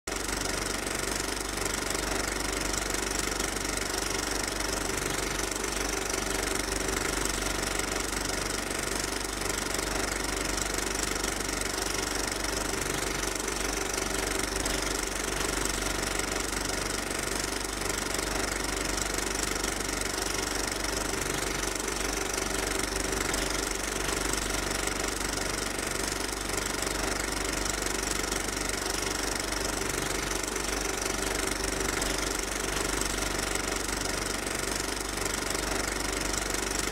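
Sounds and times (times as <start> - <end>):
machine running steadily: 0.1 - 36.9.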